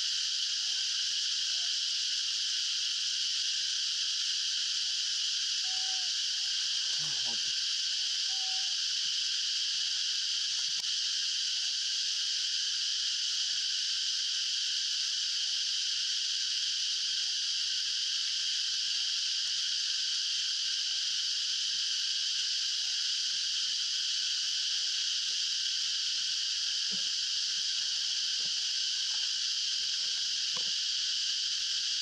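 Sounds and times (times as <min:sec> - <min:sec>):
shrill insect chorus: 0:00.0 - 0:32.0.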